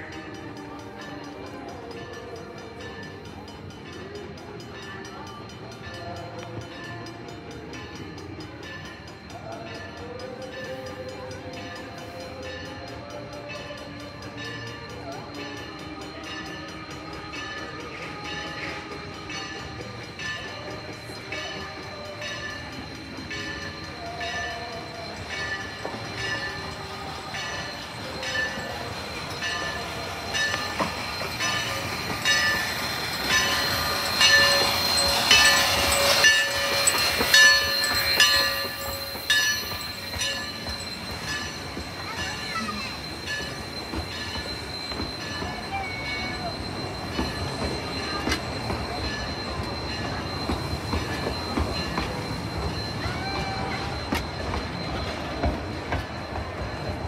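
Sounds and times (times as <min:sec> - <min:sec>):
locomotive bell ringing: 0:00.0 - 0:57.0
train running sound: 0:00.0 - 0:57.0.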